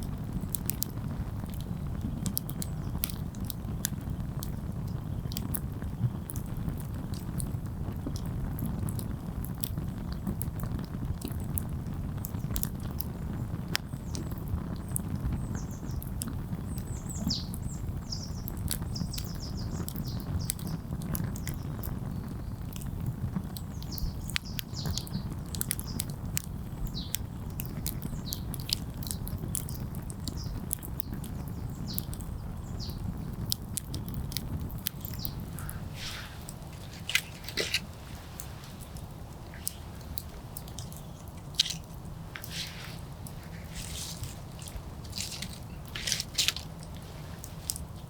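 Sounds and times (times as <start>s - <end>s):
campfire crackling and popping: 0.0s - 48.0s
small birds chirping: 0.6s - 7.5s, 8.2s - 48.0s.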